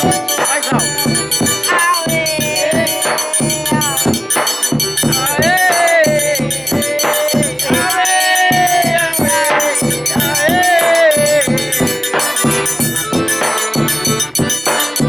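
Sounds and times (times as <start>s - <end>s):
high-pitched percussion ticking: 0.0s - 15.0s
sliding melody: 0.0s - 15.0s
steady rhythmic beat: 0.0s - 15.0s.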